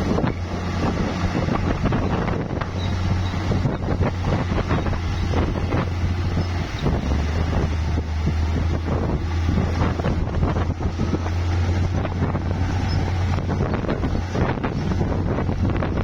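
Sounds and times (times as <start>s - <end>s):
bulldozer diesel engine: 0.0s - 16.0s
wind buffeting microphone: 0.0s - 16.0s.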